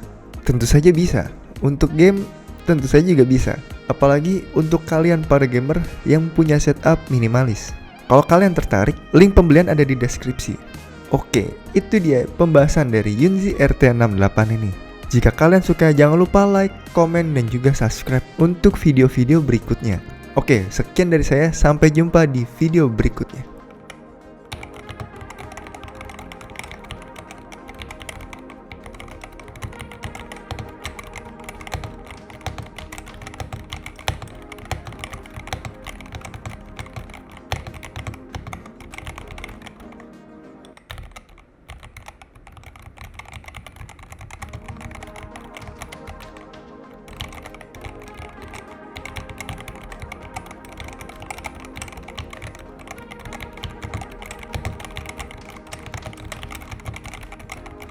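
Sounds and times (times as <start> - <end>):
background music: 0.0 - 57.9
mechanical keyboard typing: 0.0 - 57.9.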